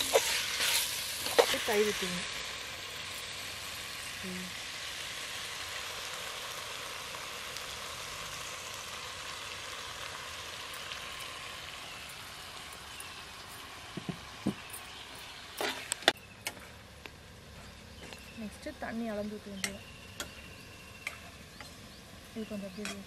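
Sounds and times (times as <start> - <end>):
curry sizzling in a pot: 0.0 - 23.0.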